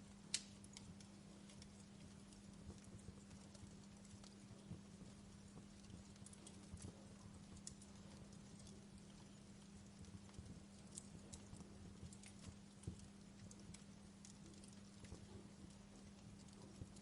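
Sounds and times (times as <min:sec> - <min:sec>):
faint low hum: 0:00.0 - 0:17.0
fire crackling and popping: 0:00.0 - 0:17.0.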